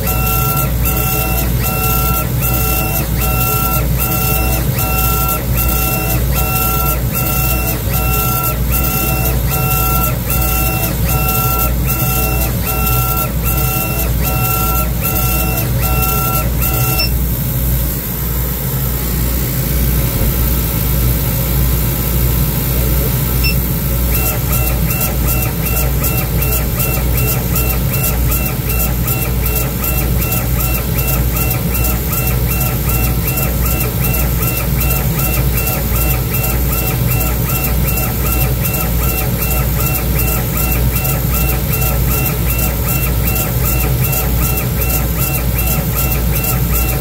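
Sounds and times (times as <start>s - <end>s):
laser engraver head whining: 0.0s - 18.0s, 22.0s - 47.0s
low machine hum: 0.0s - 47.0s.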